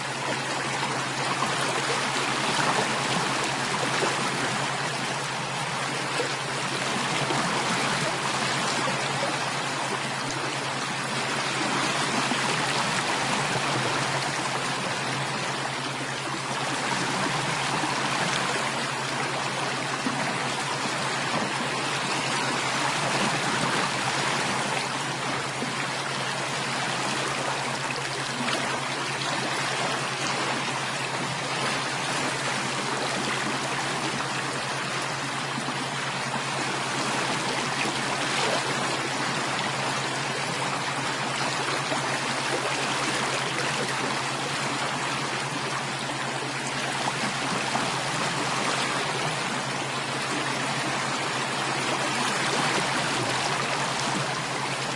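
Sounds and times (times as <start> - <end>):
running water flowing: 0.0 - 54.9.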